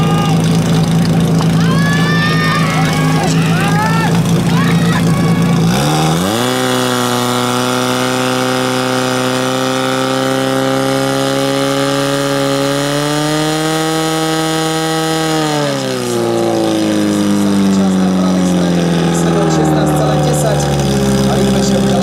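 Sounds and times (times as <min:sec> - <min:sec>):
pump engine revving: 0:00.0 - 0:22.0.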